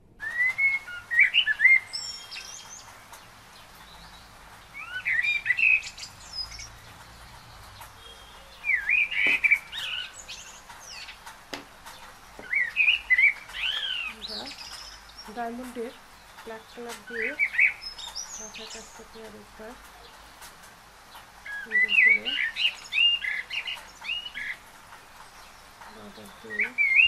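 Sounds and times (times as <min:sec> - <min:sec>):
steady hiss: 0:00.0 - 0:27.0
bird twittering: 0:00.2 - 0:11.3, 0:11.9 - 0:19.4, 0:21.4 - 0:24.6, 0:25.2 - 0:27.0.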